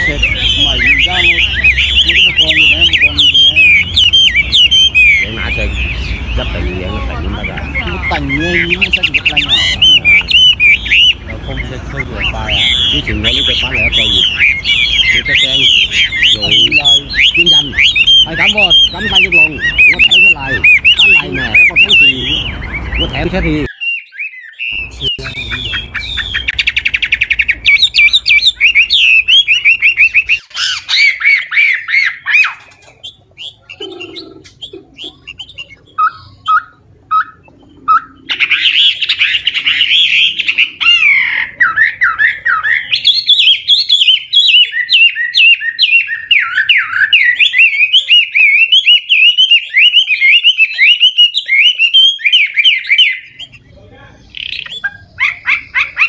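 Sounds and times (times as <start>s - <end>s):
bird singing whistled trills: 0.0s - 56.0s.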